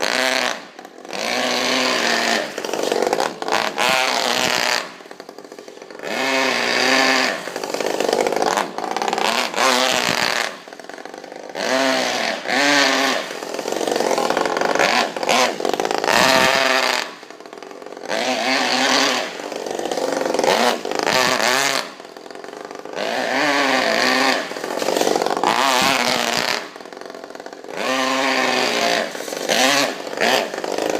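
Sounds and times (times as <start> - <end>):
model engine revving: 0.0 - 30.9.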